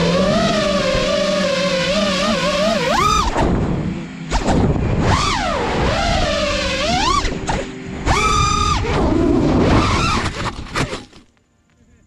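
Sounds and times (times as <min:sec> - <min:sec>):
drone motors whining: 0:00.0 - 0:11.4.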